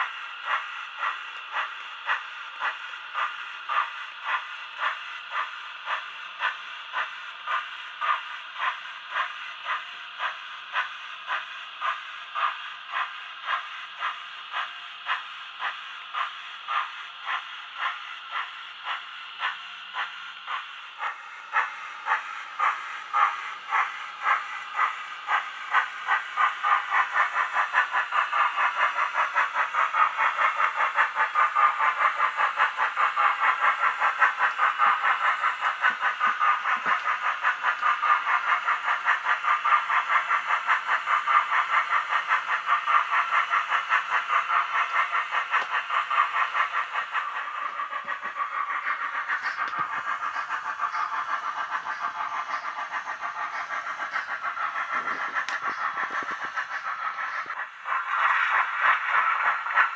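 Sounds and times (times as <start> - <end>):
model steam locomotive chuffing: 0.0 - 59.9.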